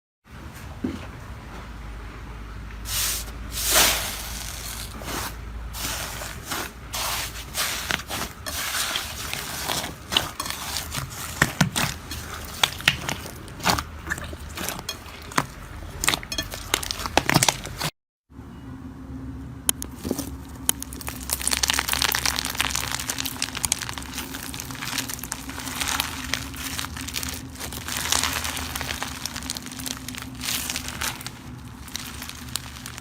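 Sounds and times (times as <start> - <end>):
slime squishing and popping: 3.7 - 17.9, 19.7 - 33.0.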